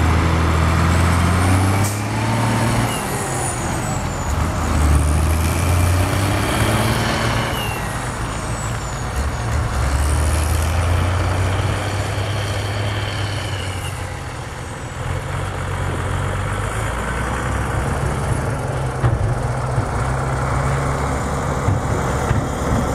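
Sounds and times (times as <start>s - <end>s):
tractor engine labouring: 0.0s - 22.9s.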